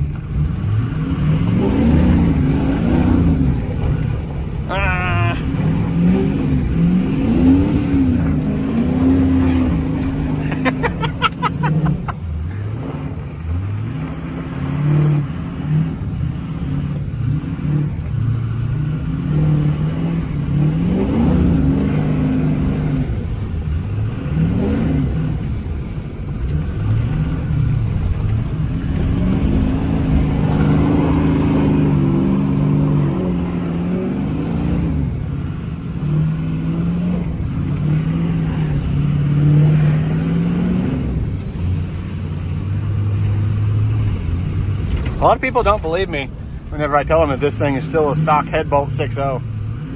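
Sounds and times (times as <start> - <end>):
diesel truck engine revving: 0.0 - 49.9.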